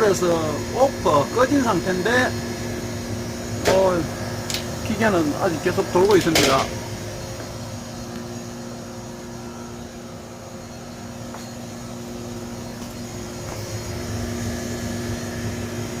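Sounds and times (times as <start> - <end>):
refrigeration unit humming: 0.0 - 16.0.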